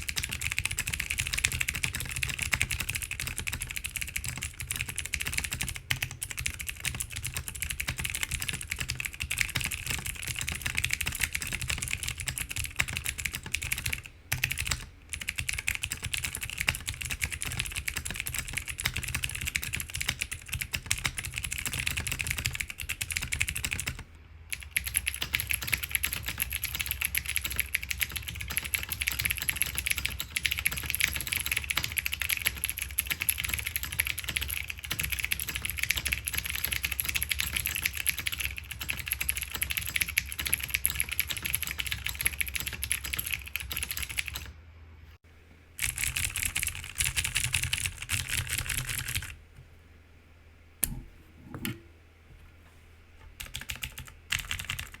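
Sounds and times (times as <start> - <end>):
clicky mechanical keyboard typing: 0.0 - 44.5, 45.8 - 49.4, 53.3 - 55.0.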